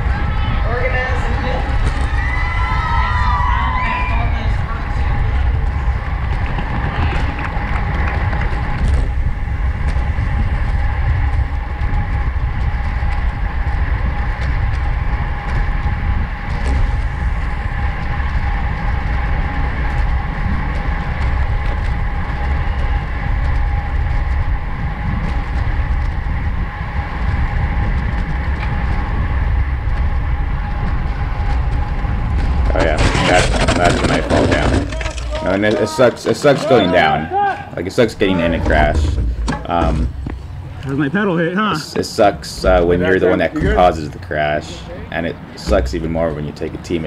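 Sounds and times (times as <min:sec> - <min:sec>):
bicycle tyre road noise: 0:00.0 - 0:47.0
thin steady whine: 0:00.0 - 0:47.0
wind buffeting microphone: 0:00.0 - 0:47.0.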